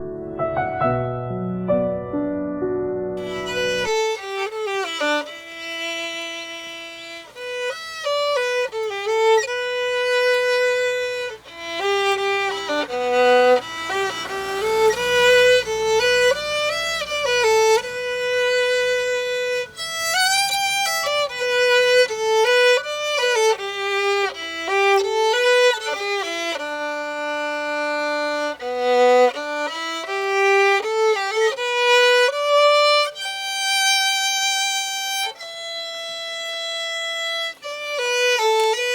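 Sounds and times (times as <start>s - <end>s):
faint low accompaniment: 0.0s - 33.4s
solo violin slow melody: 3.2s - 38.9s.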